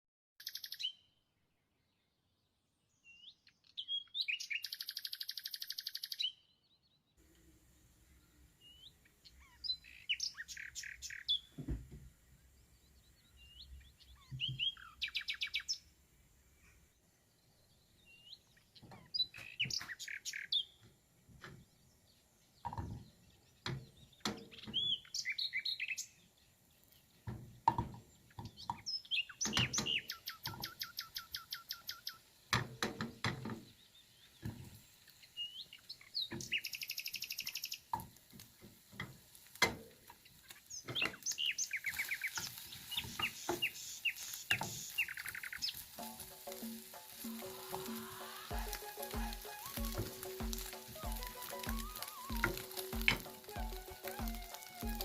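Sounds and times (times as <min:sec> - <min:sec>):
songbird chirping and trilling: 0:00.4 - 0:38.0, 0:39.9 - 0:55.0.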